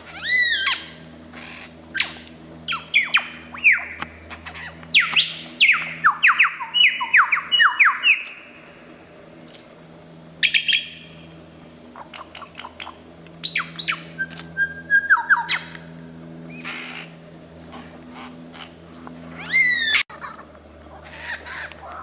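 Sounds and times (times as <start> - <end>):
lyrebird singing: 0.0 - 8.6, 9.8 - 22.0.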